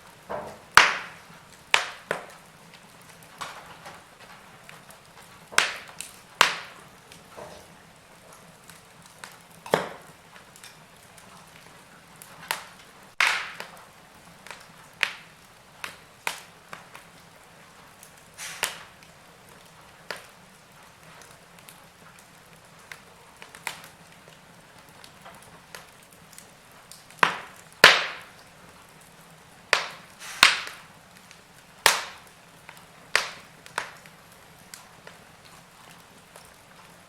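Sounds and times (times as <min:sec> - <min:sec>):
soft hiss: 0:00.0 - 0:37.0
wood fire crackling: 0:00.0 - 0:37.0.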